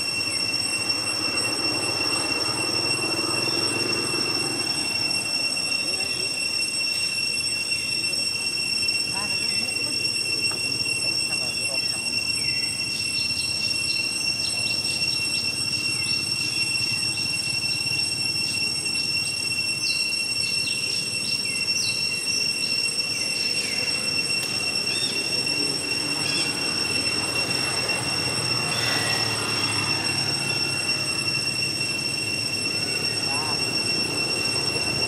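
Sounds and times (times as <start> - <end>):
bird chirps: 0.0 - 35.0
cicadas droning: 0.0 - 35.0.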